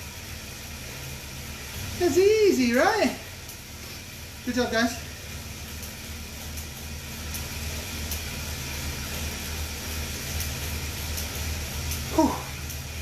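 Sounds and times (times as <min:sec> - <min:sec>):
bike trainer whirring: 0:00.0 - 0:13.0.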